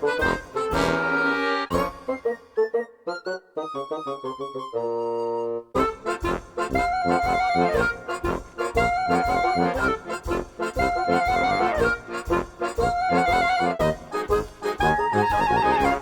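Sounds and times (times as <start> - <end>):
upbeat accordion tune: 0.0 - 16.0.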